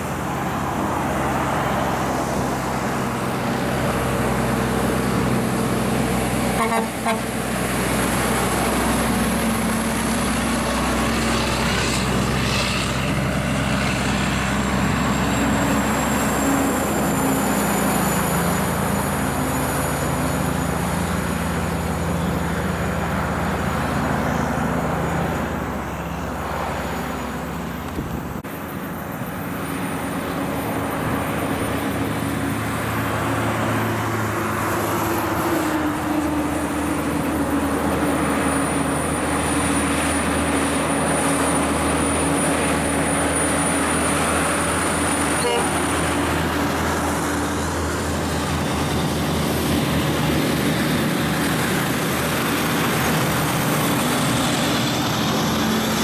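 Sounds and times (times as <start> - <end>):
diesel truck pulling uphill: 0.0 - 56.0
heavy truck approaching: 0.0 - 56.0.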